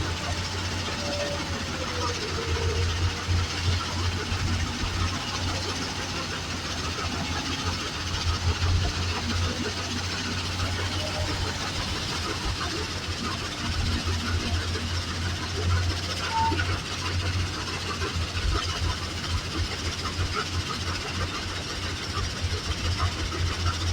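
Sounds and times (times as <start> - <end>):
deep diesel engine hum: 0.0 - 23.9
rough machinery rattle: 0.0 - 23.9.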